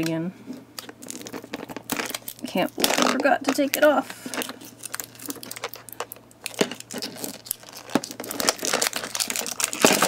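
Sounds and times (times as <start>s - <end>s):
plastic wrap crinkling and tearing: 0.8s - 10.0s.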